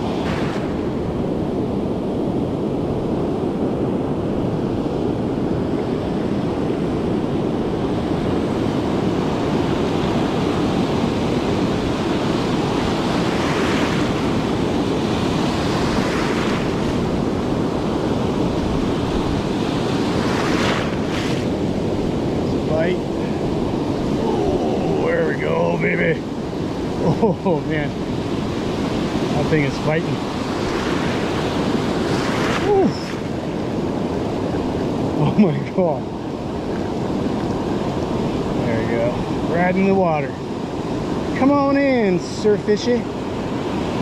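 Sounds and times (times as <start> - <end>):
surf breaking on beach: 0.0 - 44.0
wind buffeting microphone: 0.0 - 44.0.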